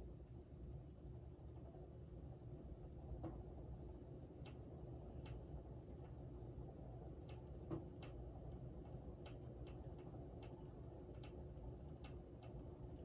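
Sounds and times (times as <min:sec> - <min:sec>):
ceiling fan motor hum: 0:00.0 - 0:13.0
ceiling fan ticking: 0:02.5 - 0:13.0.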